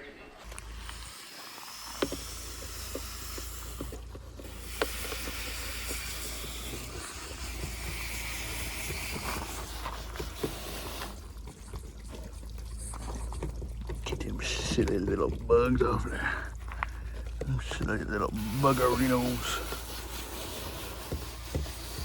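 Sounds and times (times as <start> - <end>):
water spraying hiss: 0.4 - 13.4, 14.1 - 22.0.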